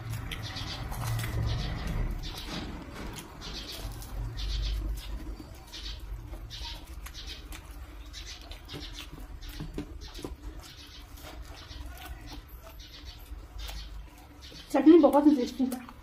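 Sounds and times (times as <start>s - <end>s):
crisp wet chewing: 0.0s - 16.0s.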